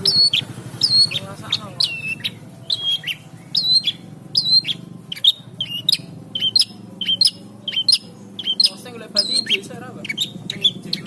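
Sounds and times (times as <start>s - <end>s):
shrike singing high whistled notes: 0.0s - 11.0s.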